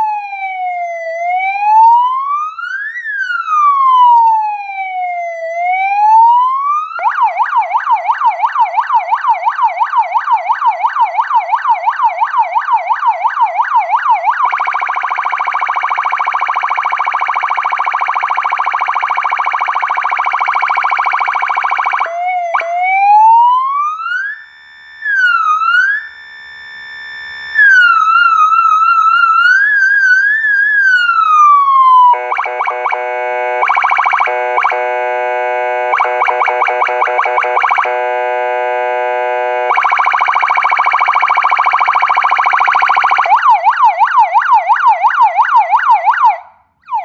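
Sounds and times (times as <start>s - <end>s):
police siren cycling tones: 0.0s - 47.0s.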